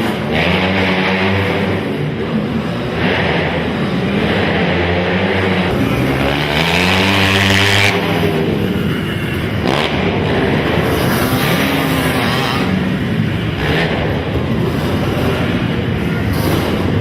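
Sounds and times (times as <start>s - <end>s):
quad engines revving: 0.0s - 17.0s.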